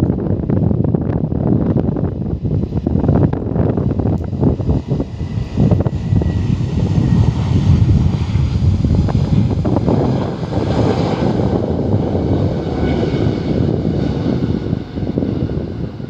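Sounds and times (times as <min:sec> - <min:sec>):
jet airliner taking off: 0:00.0 - 0:16.0
wind buffeting microphone: 0:00.0 - 0:16.0.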